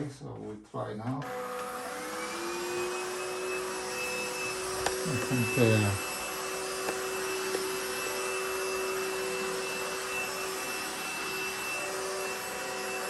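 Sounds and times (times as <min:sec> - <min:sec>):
stick vacuum cleaner running: 0:01.2 - 0:13.0.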